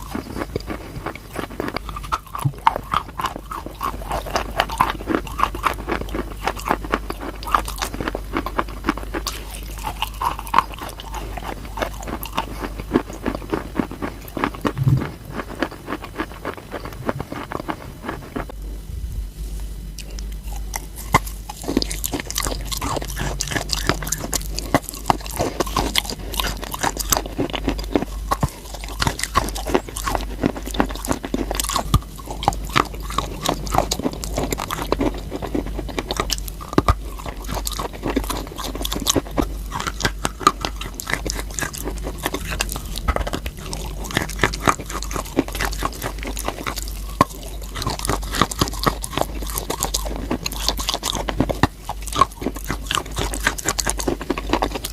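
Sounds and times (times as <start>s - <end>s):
crunching and chewing chalk: 0.0s - 18.7s, 19.6s - 54.9s.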